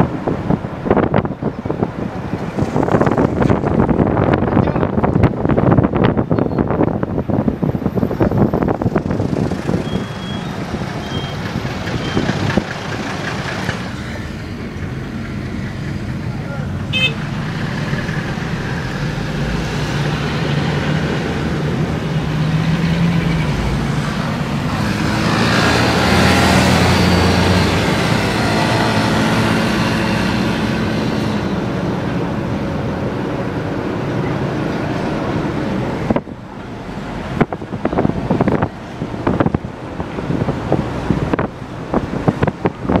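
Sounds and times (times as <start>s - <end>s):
car engine and road noise: 0.0s - 43.0s
wind buffeting microphone: 0.0s - 43.0s.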